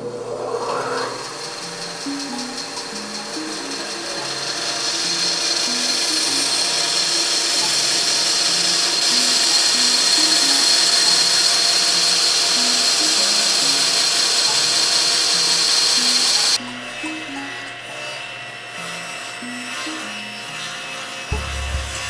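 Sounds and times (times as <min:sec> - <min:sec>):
bandsaw cutting wood: 0:00.0 - 0:22.0
background music: 0:01.6 - 0:20.4, 0:21.3 - 0:22.0.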